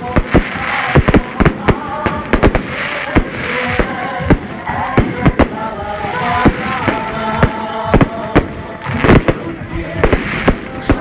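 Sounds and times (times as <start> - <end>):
continuous crackling hiss: 0.0 - 11.0
fireworks bangs: 0.0 - 11.0.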